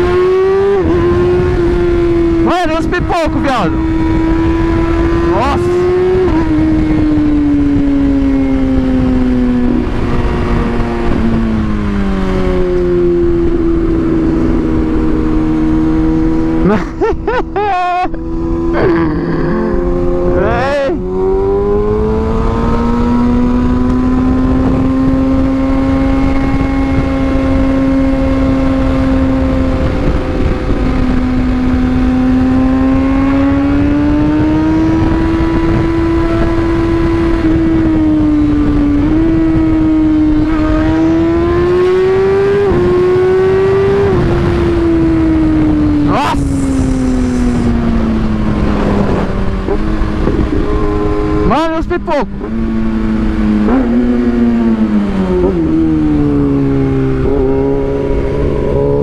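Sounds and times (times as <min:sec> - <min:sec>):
wind rush: 0:00.0 - 0:17.6, 0:18.2 - 0:59.0
motorcycle engine at high revs: 0:00.0 - 0:59.0.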